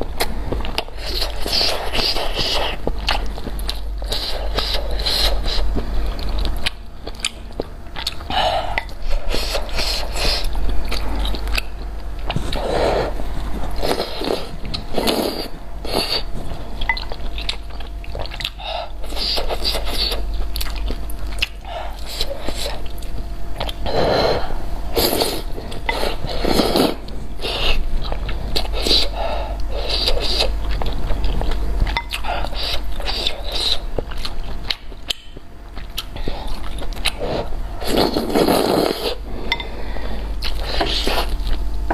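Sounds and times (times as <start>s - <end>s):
wet slurping and chewing: 0.0s - 39.6s
steady low hum: 0.0s - 41.9s.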